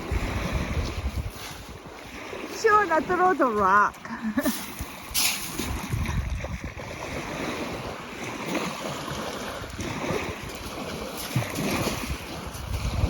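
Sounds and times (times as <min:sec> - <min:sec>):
waves washing onto beach: 0:00.0 - 0:13.0
wind buffeting microphone: 0:00.0 - 0:13.0.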